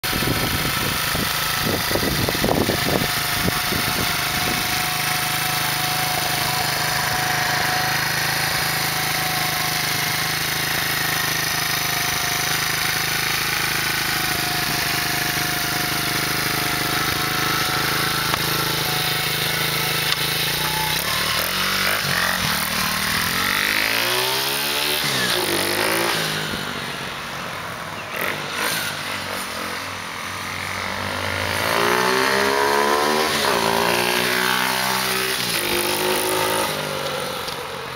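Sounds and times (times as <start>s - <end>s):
pit bike engine idling and revving: 0.0s - 37.9s.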